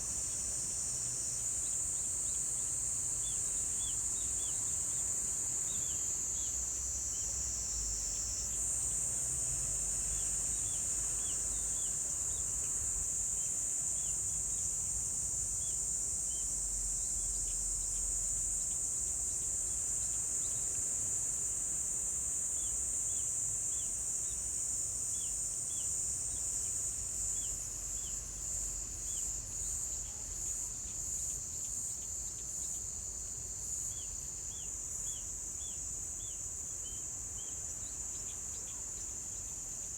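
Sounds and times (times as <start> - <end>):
faint insect chirps: 0.0 - 39.9.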